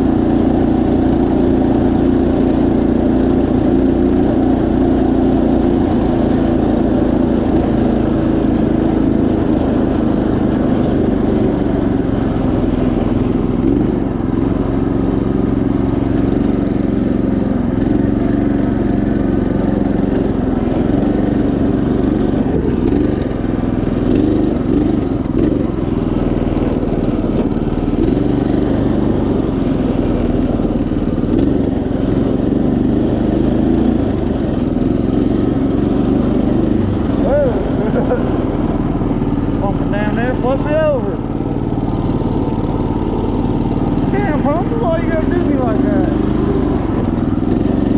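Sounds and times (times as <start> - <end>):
riding mower engine droning: 0.0 - 47.9.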